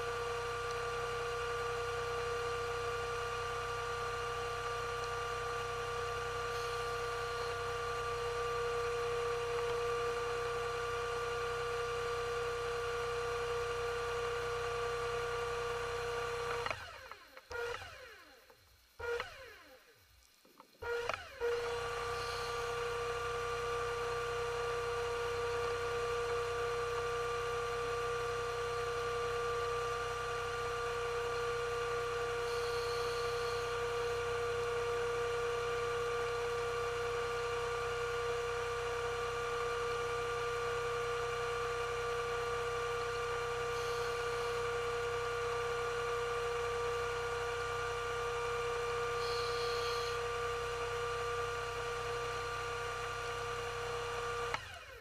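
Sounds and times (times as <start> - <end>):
underwater scooter motor whine: 0.0 - 18.2, 20.8 - 55.0.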